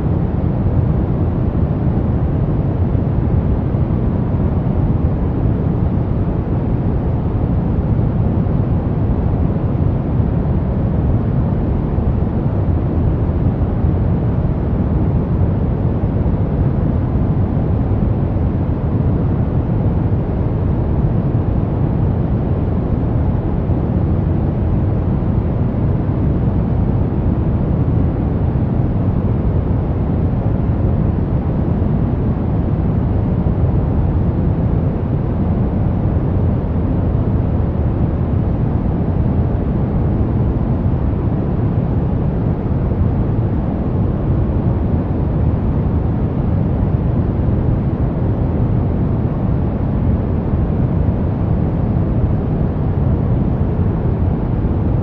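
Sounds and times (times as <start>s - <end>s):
brown noise: 0.0s - 55.0s.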